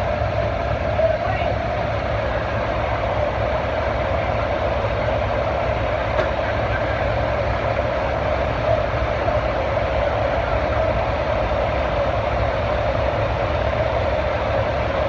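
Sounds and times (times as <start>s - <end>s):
tractor engine running loud: 0.0s - 15.0s.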